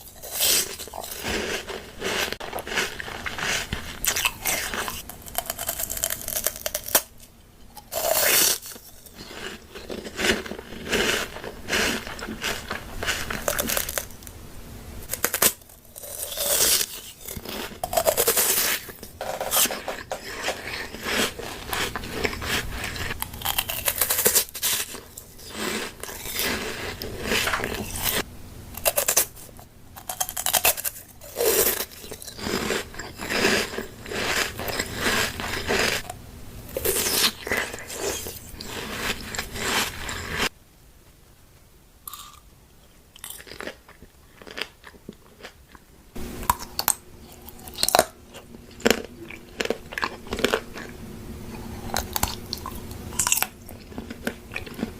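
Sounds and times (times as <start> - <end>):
crunching and chewing food: 0.0 - 14.4, 15.0 - 40.5, 42.0 - 54.9.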